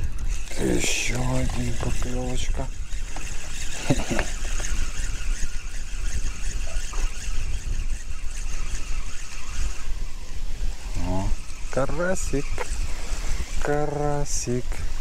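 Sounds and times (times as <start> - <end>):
fishing reel cranking: 0.0 - 15.0
wind rumbling on microphone: 0.0 - 15.0.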